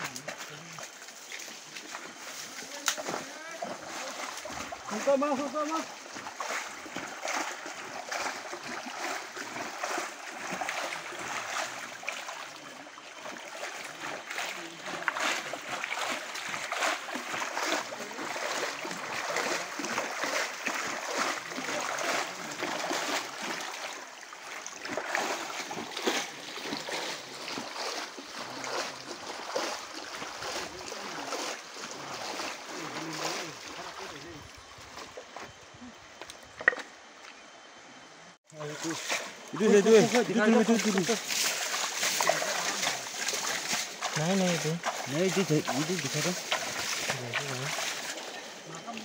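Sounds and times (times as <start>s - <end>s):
stream water splashing: 0.0s - 49.0s.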